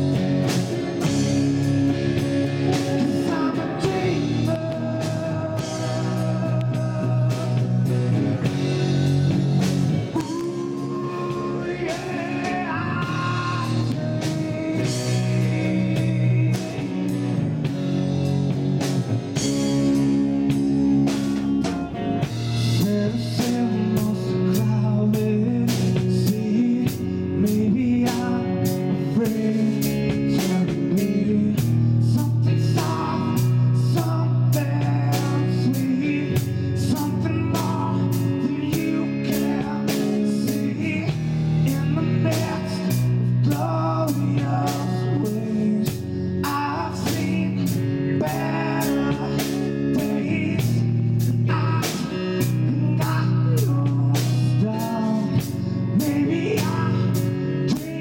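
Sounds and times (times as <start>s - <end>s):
amplified guitar: 0.0s - 58.0s
bass notes: 0.0s - 58.0s
drums keeping steady beat: 0.0s - 58.0s.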